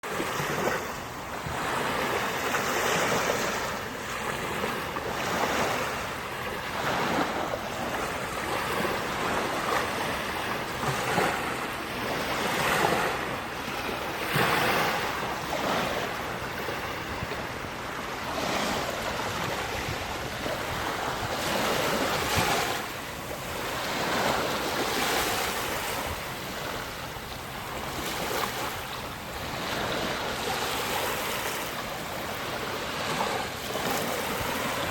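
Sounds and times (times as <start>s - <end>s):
sea waves breaking on shore: 0.0s - 34.9s.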